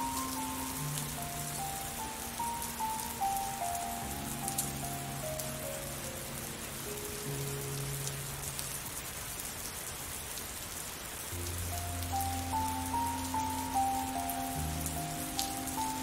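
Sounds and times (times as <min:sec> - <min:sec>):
soft slow music: 0:00.0 - 0:09.3, 0:11.3 - 0:16.0
rain falling: 0:00.0 - 0:16.0.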